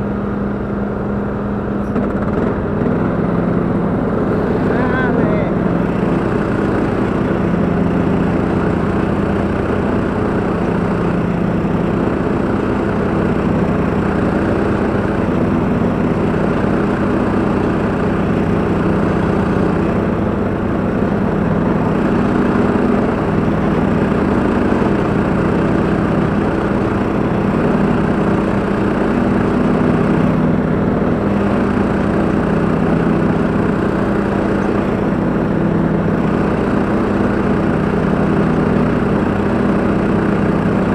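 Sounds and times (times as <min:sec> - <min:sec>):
lawn tractor engine drone: 0:00.0 - 0:40.9.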